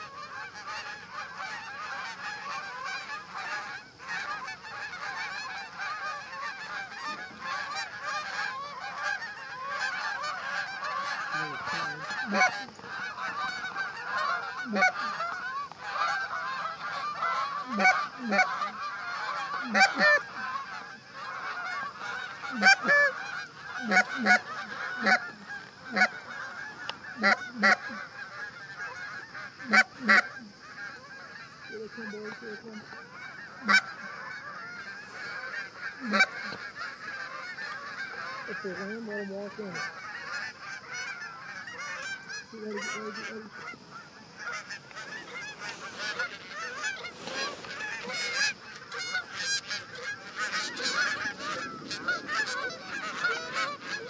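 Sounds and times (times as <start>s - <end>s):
distant geese chatter: 0.0s - 54.0s
geese honking: 0.0s - 54.0s.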